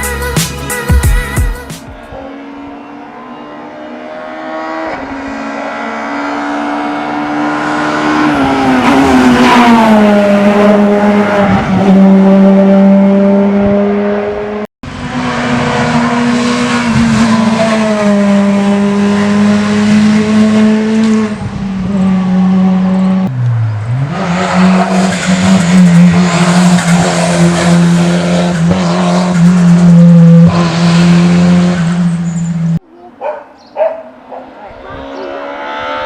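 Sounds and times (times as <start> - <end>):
rally car engine at high revs: 2.0 - 32.8, 33.8 - 36.0.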